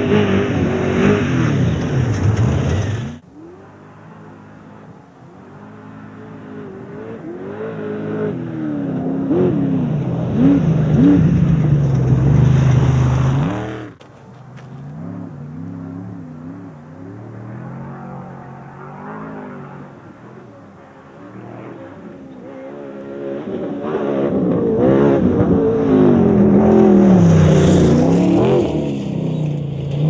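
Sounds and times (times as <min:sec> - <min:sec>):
race vehicle engine revving: 0:00.0 - 0:30.0.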